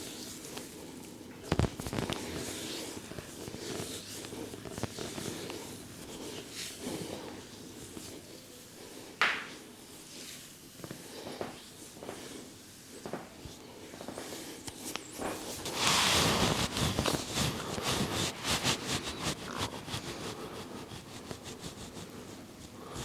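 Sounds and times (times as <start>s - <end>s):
hands rubbing hair and skin: 0.0s - 23.0s.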